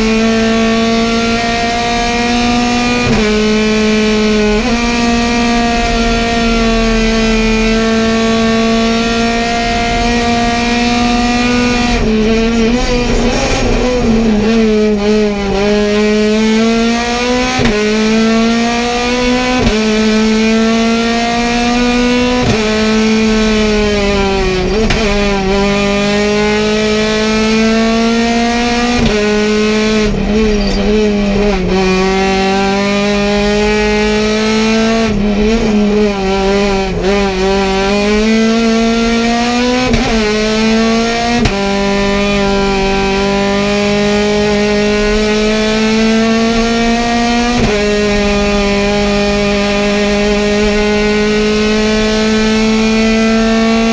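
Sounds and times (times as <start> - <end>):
race car engine accelerating: 0.0 - 53.9.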